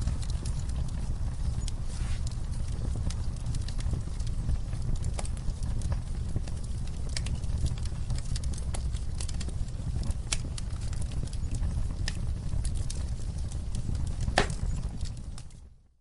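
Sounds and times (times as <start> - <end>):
fire crackling and popping: 0.0 - 15.9
low rumble of flames: 0.0 - 16.0.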